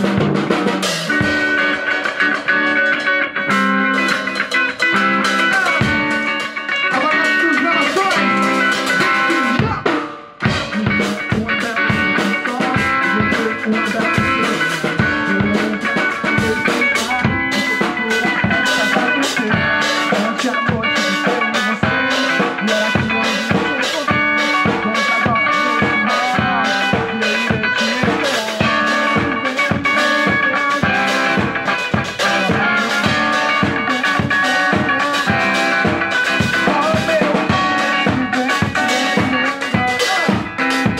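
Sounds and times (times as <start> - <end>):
drum kit beat: 0.0 - 40.9
electric guitar: 0.0 - 40.9.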